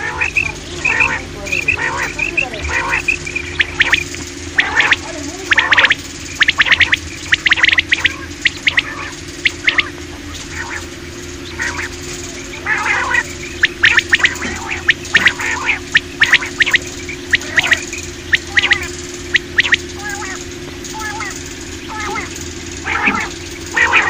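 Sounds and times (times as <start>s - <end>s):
quail calling: 0.0s - 24.0s
steady low hum: 0.0s - 24.0s.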